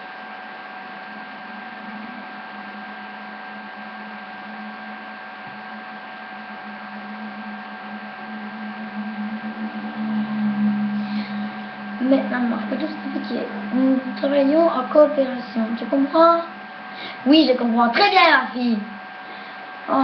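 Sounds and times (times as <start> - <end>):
electrical hum and hiss: 0.0 - 20.0
low hum: 0.0 - 20.0
thin constant tones: 0.6 - 20.0.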